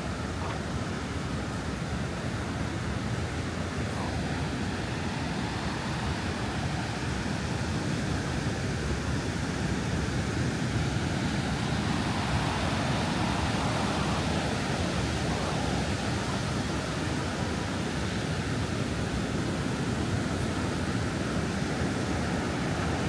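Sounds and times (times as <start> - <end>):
sea surf breaking on beach: 0.0 - 23.0.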